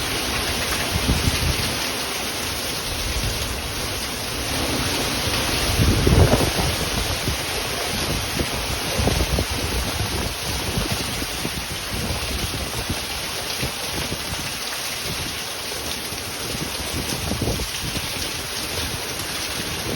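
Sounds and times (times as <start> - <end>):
driving rain: 0.0 - 19.9
storm wind: 0.0 - 19.9
wind buffeting microphone: 0.0 - 19.9.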